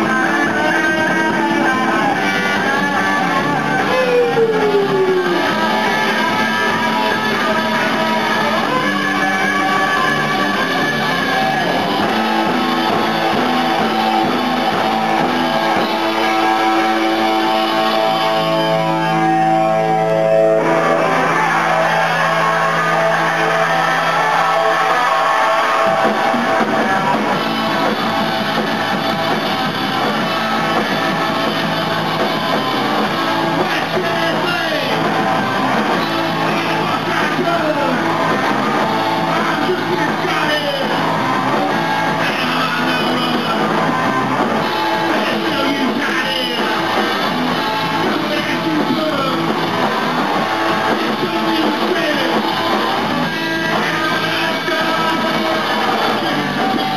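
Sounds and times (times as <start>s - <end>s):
rock band playing live: 0.0s - 56.9s.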